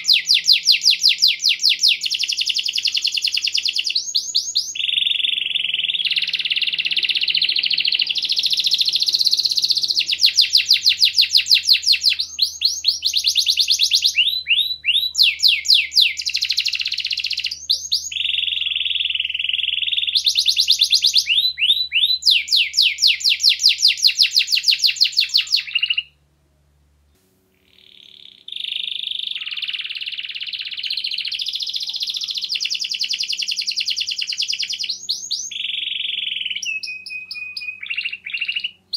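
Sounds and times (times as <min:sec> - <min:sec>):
canary singing trills: 0:00.0 - 0:26.2, 0:27.5 - 0:38.9.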